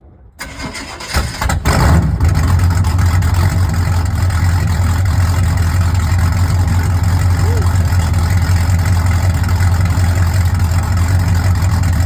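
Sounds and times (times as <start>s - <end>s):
engine cranking: 0.4s - 12.0s
deep engine idle: 2.0s - 12.0s.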